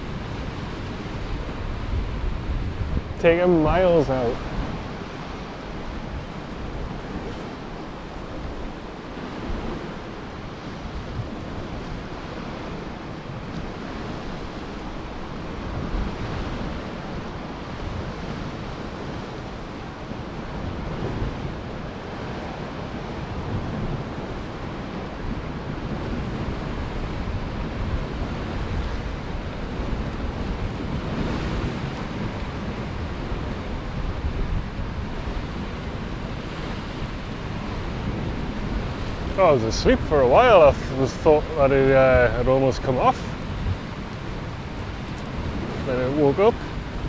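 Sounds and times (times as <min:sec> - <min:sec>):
waves breaking against rocks: 0:00.0 - 0:47.0
wind buffeting microphone: 0:00.0 - 0:47.0.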